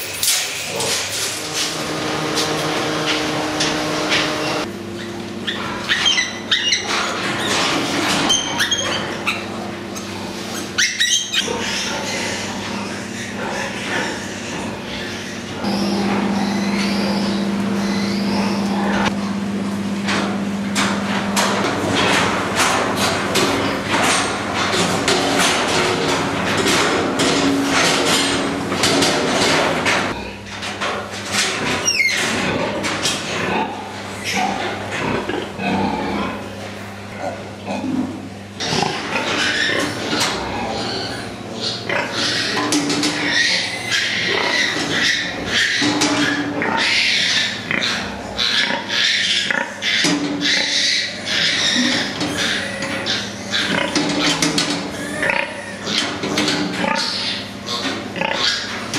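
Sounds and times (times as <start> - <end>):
pigs grunting and squealing: 0.0 - 19.2, 21.2 - 58.9.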